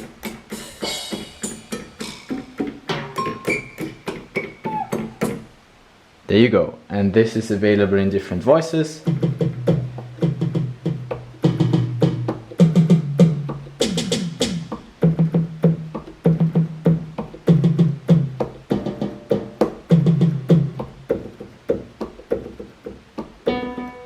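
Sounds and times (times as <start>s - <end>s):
keyboard percussion hits: 0.0s - 5.5s, 9.0s - 24.0s.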